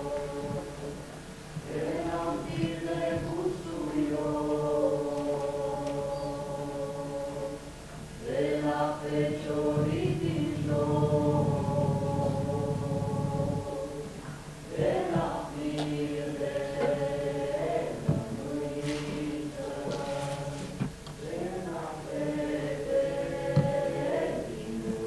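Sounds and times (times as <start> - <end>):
voices singing together: 0.0 - 25.0.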